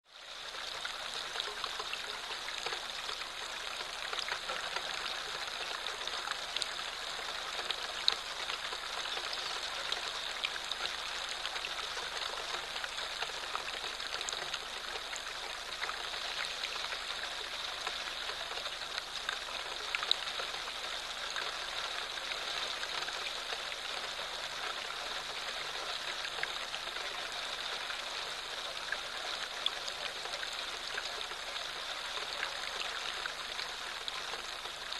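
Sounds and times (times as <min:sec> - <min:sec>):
light rain pattering: 0:00.0 - 0:34.9.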